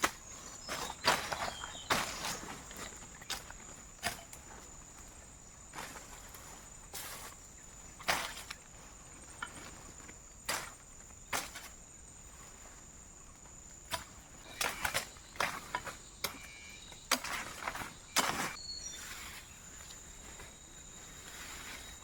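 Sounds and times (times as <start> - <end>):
branches rustling and knocking: 0.0 - 22.0
high insect drone: 0.0 - 22.0.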